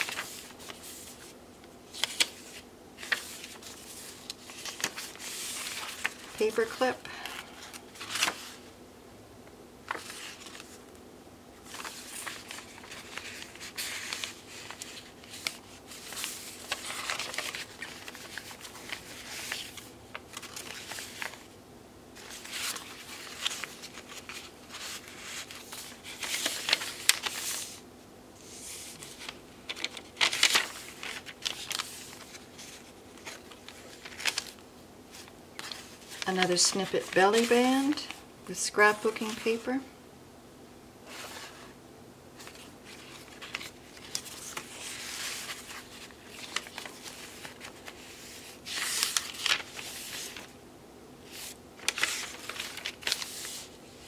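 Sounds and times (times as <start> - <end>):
paper rustling and crinkling: 0.0 - 8.7, 9.8 - 10.9, 11.6 - 21.6, 22.2 - 27.8, 28.4 - 38.2, 41.1 - 41.8, 42.4 - 50.6, 51.2 - 54.0.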